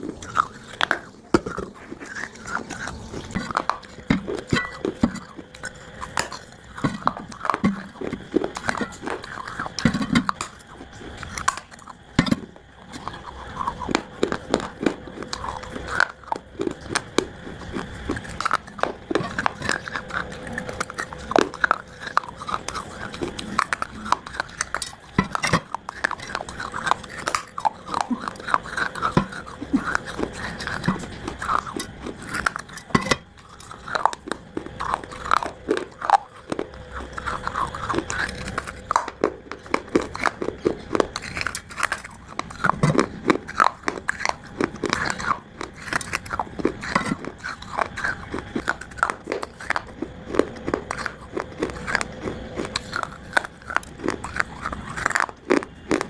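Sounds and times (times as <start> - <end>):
crunchy chewing of clay chunks: 0.0 - 56.0.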